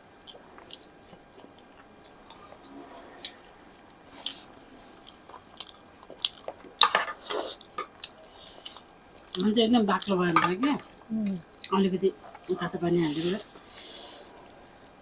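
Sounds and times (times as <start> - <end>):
person chewing food: 0.0 - 10.2, 10.8 - 15.0.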